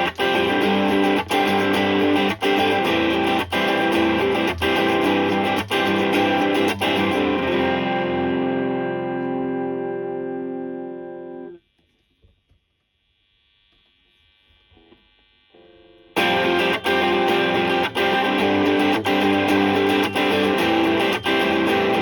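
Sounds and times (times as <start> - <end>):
distorted electric guitar chords: 0.0 - 11.6, 15.6 - 22.0.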